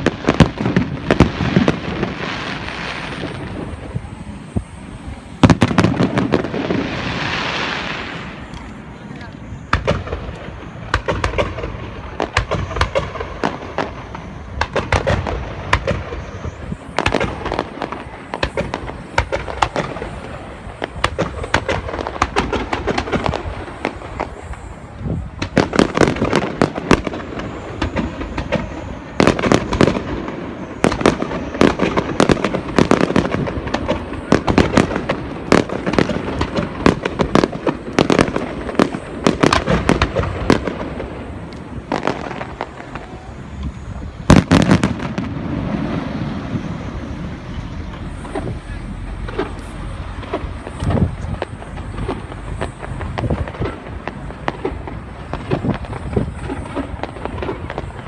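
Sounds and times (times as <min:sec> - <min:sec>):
fireworks booming and crackling: 0:00.0 - 0:58.0.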